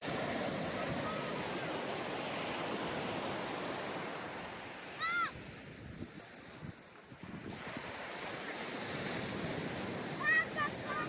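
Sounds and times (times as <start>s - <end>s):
ocean waves on beach: 0.0s - 11.0s.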